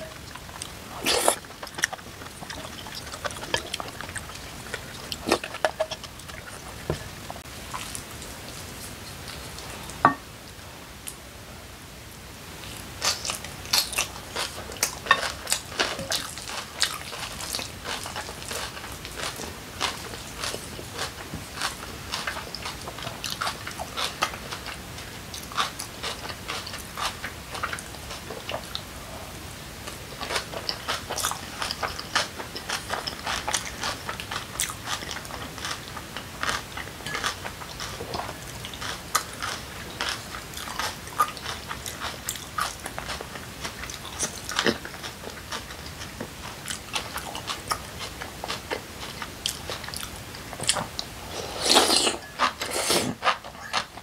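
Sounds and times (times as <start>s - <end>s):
crunchy chewing: 0.0s - 10.0s, 12.7s - 54.0s.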